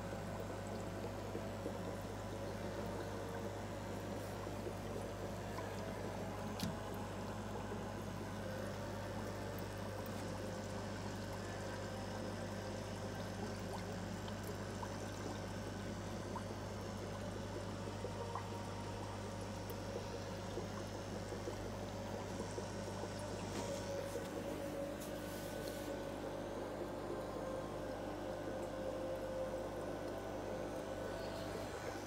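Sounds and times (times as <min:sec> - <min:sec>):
constant low hum: 0:00.0 - 0:32.0
water bubbling in a fish tank: 0:00.0 - 0:32.0.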